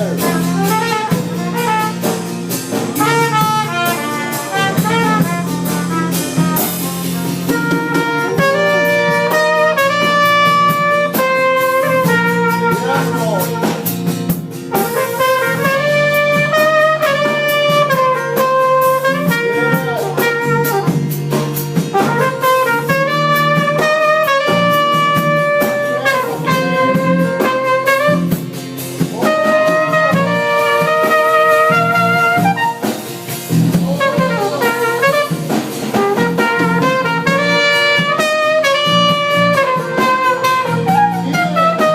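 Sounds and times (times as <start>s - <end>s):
jazzy drums and bass: 0.0s - 41.9s
trumpet playing melody: 0.0s - 41.9s.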